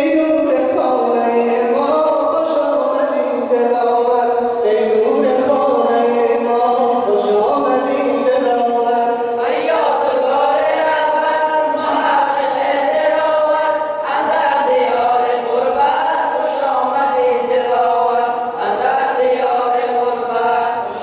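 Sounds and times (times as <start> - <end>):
person singing slow chant: 0.0 - 21.0.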